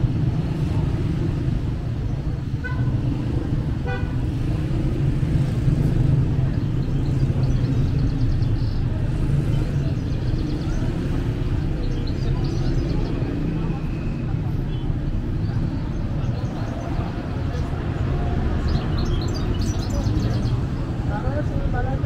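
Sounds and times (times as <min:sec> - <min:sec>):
passing cars rumbling: 0:00.0 - 0:22.0.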